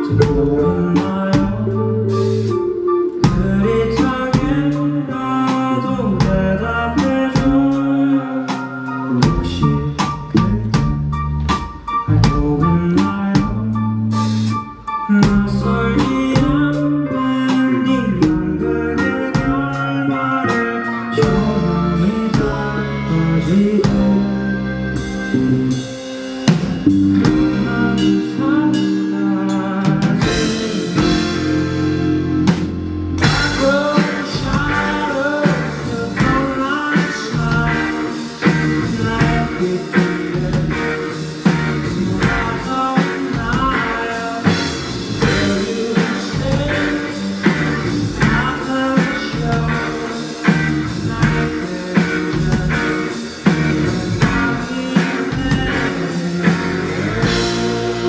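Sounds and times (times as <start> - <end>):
steady drum beat: 0.0 - 4.9, 5.5 - 16.9, 21.2 - 58.0
live rock band playing: 0.0 - 58.0
male lead vocal: 0.0 - 58.0.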